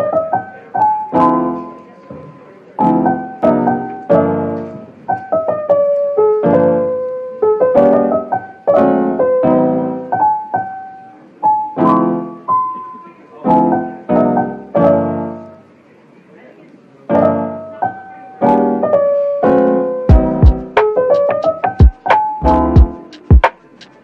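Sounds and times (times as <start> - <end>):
gentle piano music: 0.0 - 15.8, 17.0 - 24.0.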